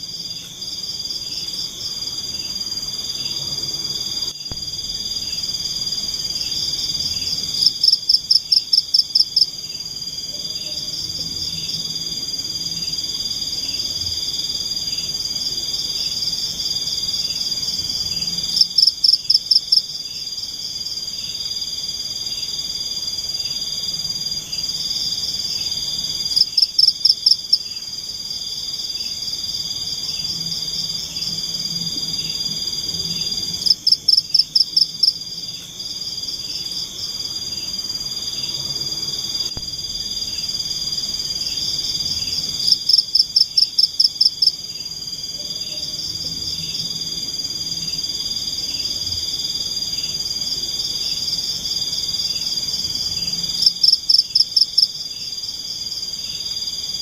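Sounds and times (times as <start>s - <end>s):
insect pulsing trill: 0.0s - 57.0s
insects droning: 0.0s - 57.0s
loud rapid insect pulses: 0.0s - 57.0s.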